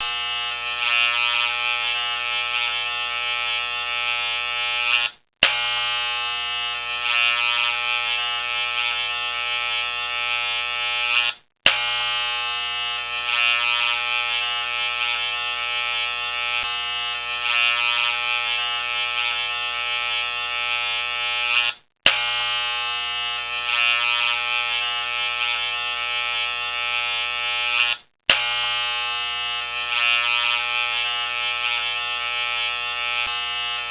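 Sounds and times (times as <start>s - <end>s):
harsh electric buzz: 0.0s - 33.9s.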